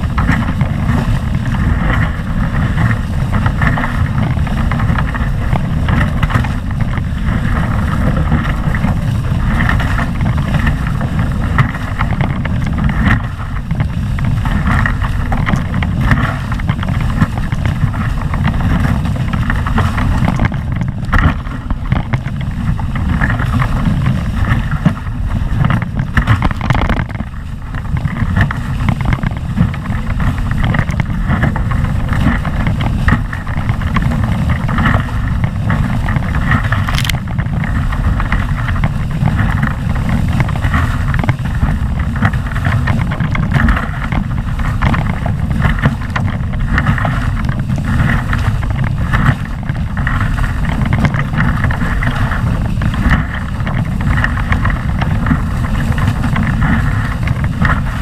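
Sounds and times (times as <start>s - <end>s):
heavy low rumble: 0.0s - 58.0s
water splashing off hulls: 0.0s - 58.0s
wind buffeting microphone: 0.0s - 58.0s.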